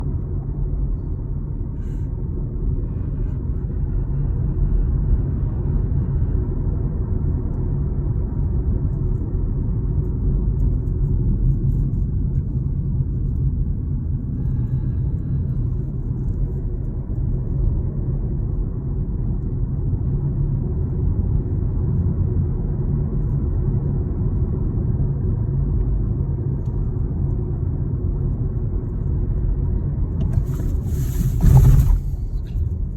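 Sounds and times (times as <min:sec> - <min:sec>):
car low rumble: 0:00.0 - 0:32.9.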